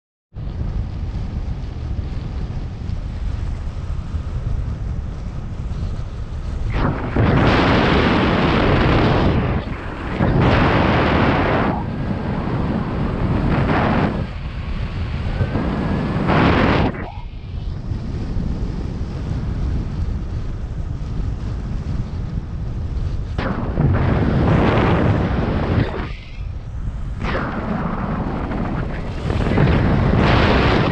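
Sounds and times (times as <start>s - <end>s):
wind buffeting microphone: 0.4s - 30.9s
gusts of rushing air: 0.6s - 30.9s.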